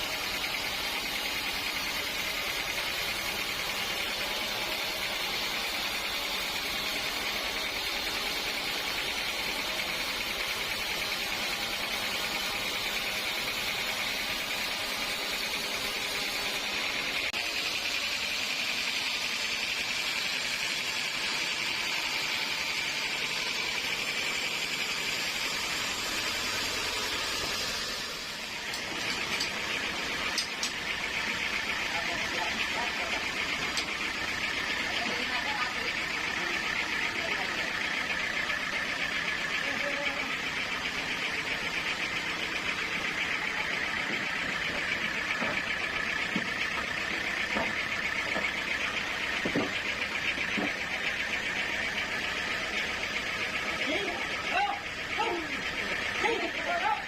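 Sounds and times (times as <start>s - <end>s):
sawmill saw cutting log: 0.0s - 57.0s.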